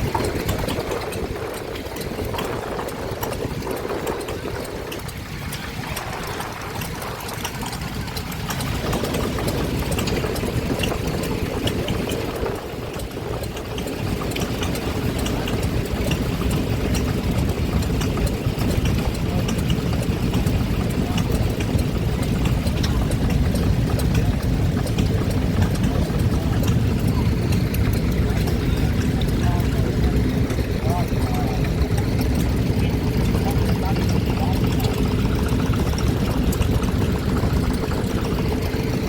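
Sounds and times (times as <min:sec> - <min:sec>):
stationary engine running: 0:00.0 - 0:39.0.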